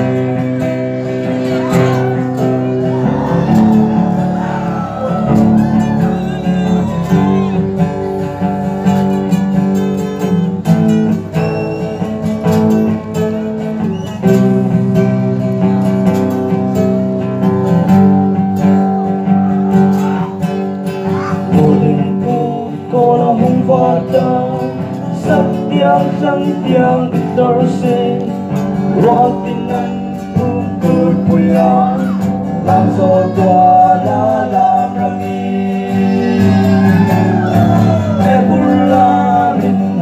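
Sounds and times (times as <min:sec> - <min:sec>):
guitar music: 0:00.0 - 0:40.0.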